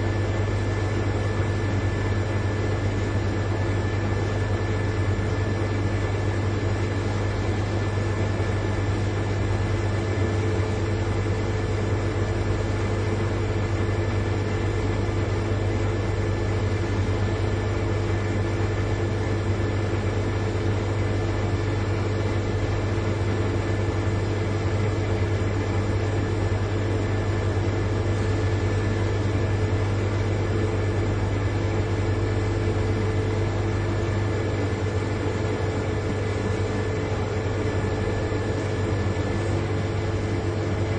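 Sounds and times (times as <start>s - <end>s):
refrigerator compressor humming: 0.0s - 40.9s.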